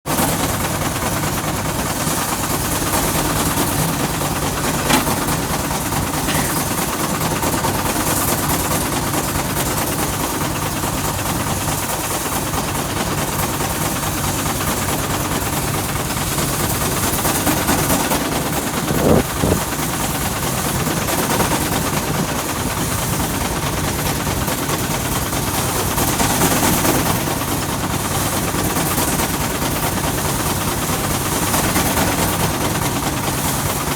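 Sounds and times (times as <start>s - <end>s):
threshing machine clattering: 0.1s - 28.0s.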